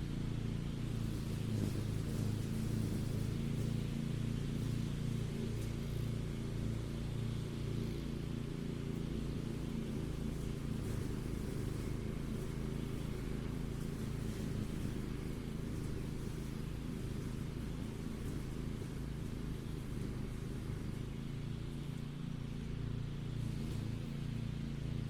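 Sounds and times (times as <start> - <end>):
mower engine running: 0.0 - 25.0.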